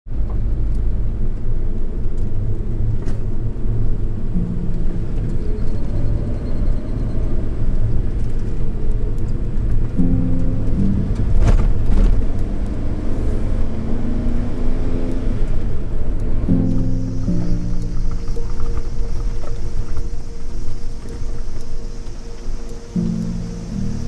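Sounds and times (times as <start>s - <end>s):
truck engine and road noise: 0.1s - 24.0s.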